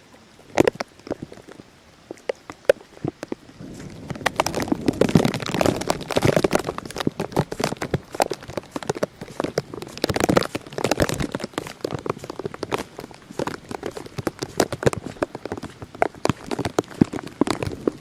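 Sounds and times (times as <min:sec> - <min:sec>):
rushing water noise: 0:00.0 - 0:18.0
water pattering and splashing: 0:00.0 - 0:18.0.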